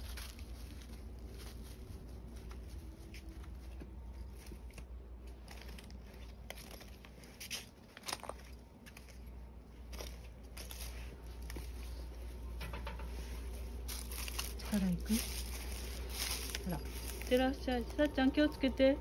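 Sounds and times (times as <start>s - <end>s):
footsteps crunching on dry leaves: 0.0s - 12.4s, 13.3s - 18.5s.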